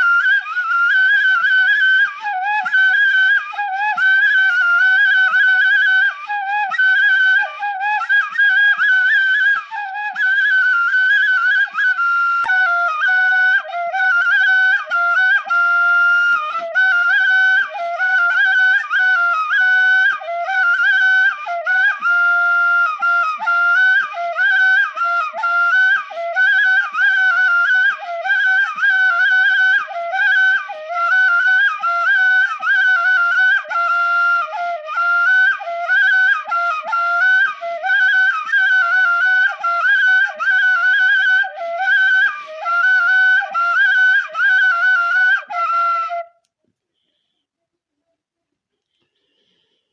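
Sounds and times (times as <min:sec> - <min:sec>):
solo flute melody: 0:00.0 - 0:46.6.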